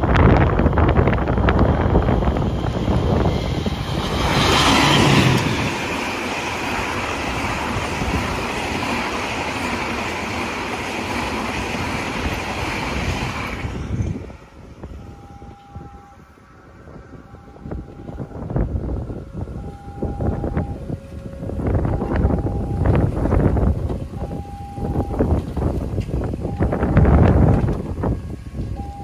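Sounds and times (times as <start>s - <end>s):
locomotive heavy rumble: 0.0s - 29.0s
train wheels rushing on rails: 0.0s - 29.0s.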